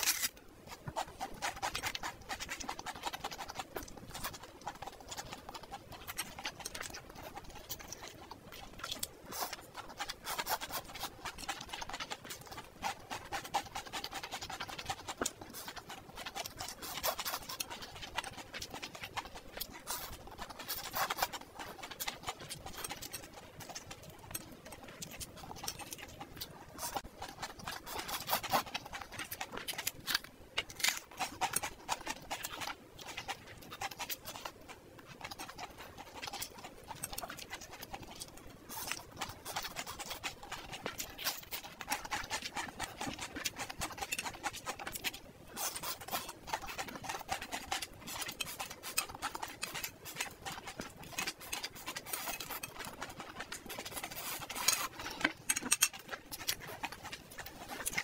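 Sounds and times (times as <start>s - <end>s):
person chewing and slurping noodles: 0.0s - 58.0s.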